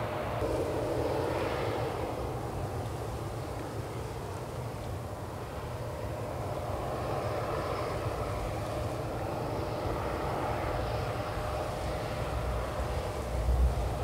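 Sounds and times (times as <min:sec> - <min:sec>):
aircraft engine rumble: 0:00.0 - 0:14.0.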